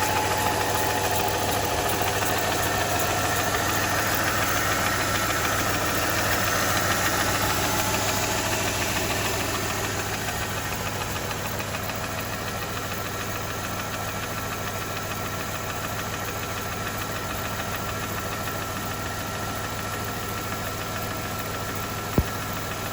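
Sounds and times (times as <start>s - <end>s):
engine running with rapid knock: 0.0s - 22.9s.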